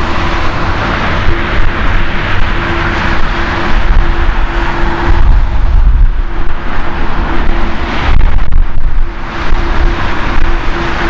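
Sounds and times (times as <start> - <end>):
jet engine rumble: 0.0 - 11.0
low hum: 0.0 - 11.0.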